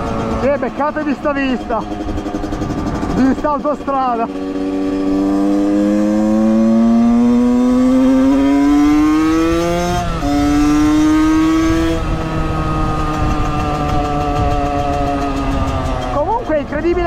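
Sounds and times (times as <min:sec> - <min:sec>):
low wind rumble: 0:00.0 - 0:17.0
two-stroke motorcycle engine: 0:00.0 - 0:17.0.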